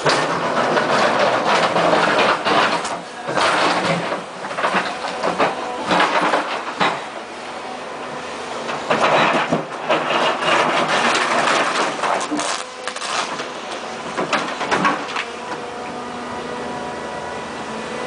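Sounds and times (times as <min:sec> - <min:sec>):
excavator ripping rock: 0:00.0 - 0:16.0
excavator engine running: 0:00.0 - 0:18.0.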